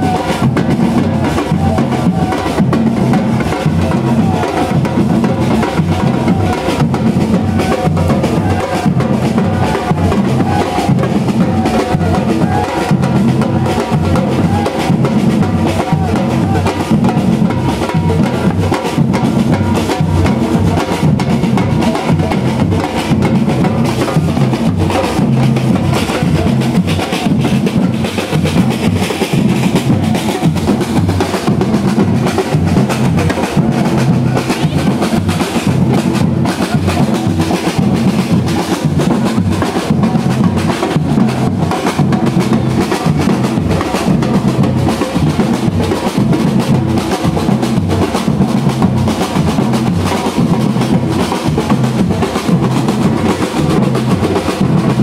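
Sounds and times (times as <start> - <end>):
street percussion band: 0.0 - 55.0.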